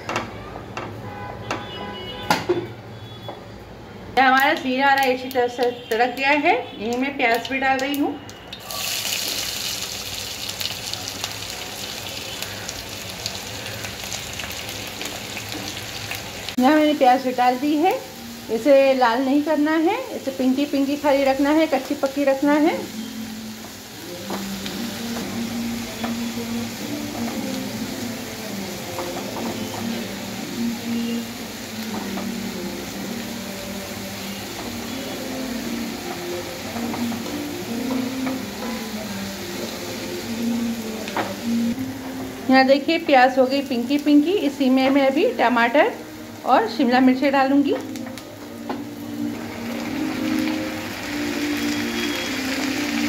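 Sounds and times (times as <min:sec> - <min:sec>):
onions sizzling in hot oil: 0:04.3 - 0:53.0.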